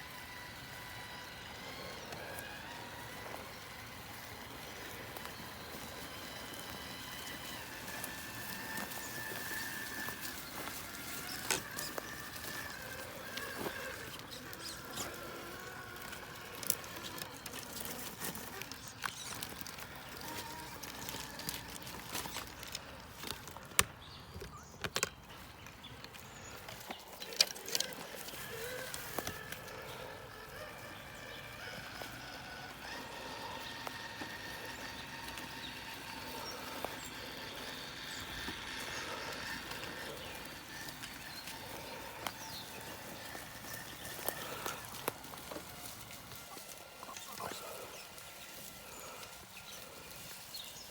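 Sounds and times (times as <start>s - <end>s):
rc car motor whining: 0.0s - 50.9s.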